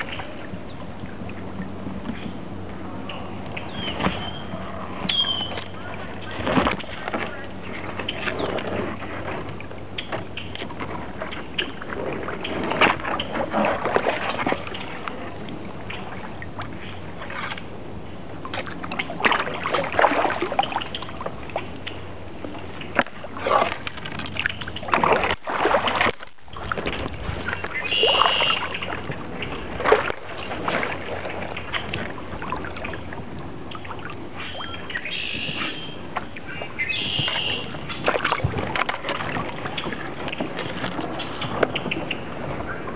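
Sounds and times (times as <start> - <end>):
kayak paddle splashing water: 0.0 - 42.9.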